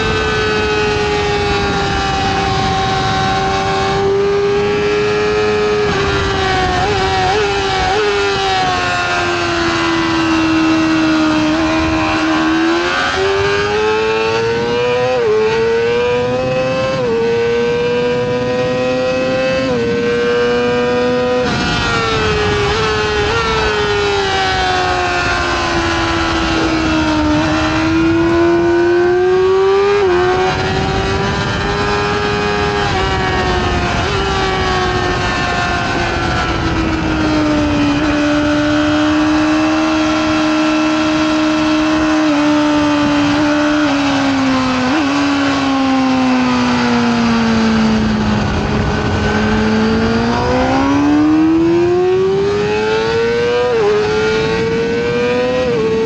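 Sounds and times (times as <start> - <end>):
motorcycle engine at speed: 0.0 - 56.0
wind rushing: 0.0 - 56.0.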